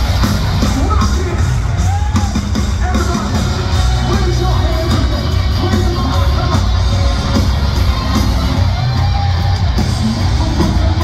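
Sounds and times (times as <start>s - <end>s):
distorted electric guitar: 0.0s - 11.0s
heavy drums: 0.0s - 11.0s
rock band playing live: 0.0s - 11.0s.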